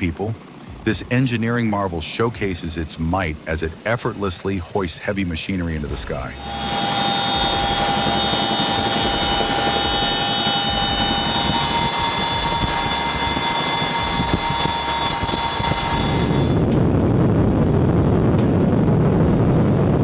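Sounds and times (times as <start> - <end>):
helicopter rotors beating: 0.0 - 20.0
helicopter turbine whine: 0.0 - 20.0.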